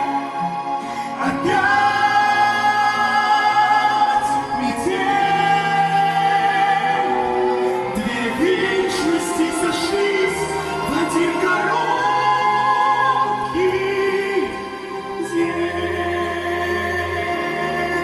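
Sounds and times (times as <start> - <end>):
musical accompaniment: 0.0 - 18.0
woman and man singing duet: 0.0 - 18.0.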